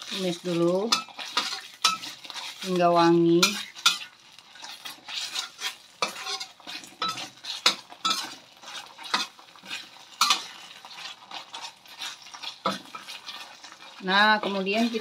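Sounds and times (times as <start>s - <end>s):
metal spoon scraping a wok: 0.0s - 15.0s
paste sizzling in hot oil: 0.0s - 15.0s.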